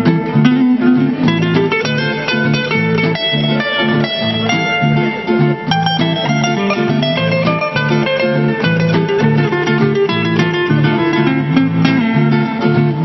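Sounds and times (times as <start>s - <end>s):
two acoustic guitars playing: 0.0s - 13.0s.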